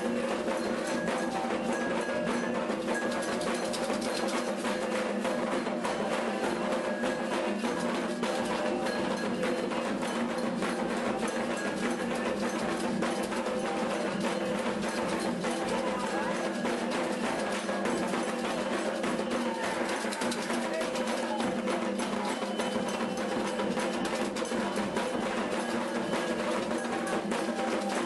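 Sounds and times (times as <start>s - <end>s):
hand drums: 0.0s - 28.0s.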